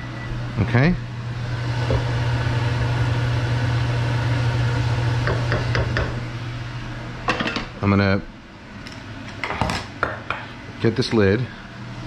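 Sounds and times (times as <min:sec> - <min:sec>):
kitchen fan humming: 0:00.0 - 0:12.0.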